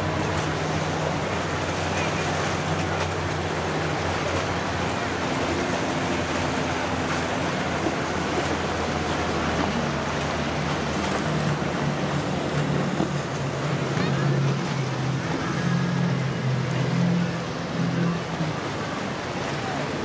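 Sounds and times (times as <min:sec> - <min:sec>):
powerboat engines humming: 0:00.0 - 0:20.0
waves: 0:00.0 - 0:20.0
wind: 0:00.0 - 0:20.0.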